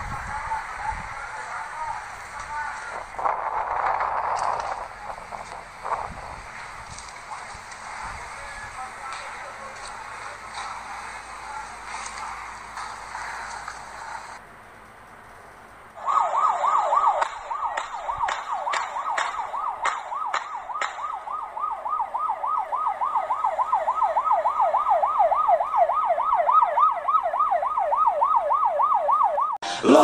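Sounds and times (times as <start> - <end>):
emergency vehicle siren yelping: 0.0 - 14.4, 16.0 - 30.0.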